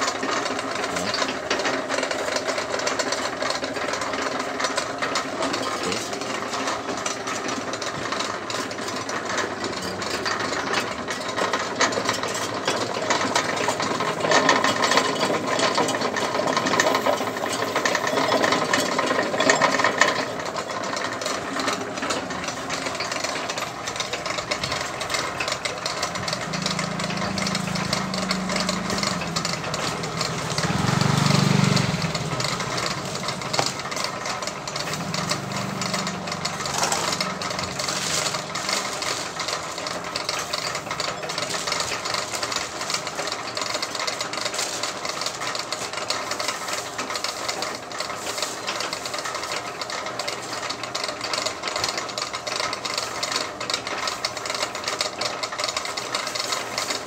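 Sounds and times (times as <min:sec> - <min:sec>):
pellet mill rattling clatter: 0:00.0 - 0:57.0.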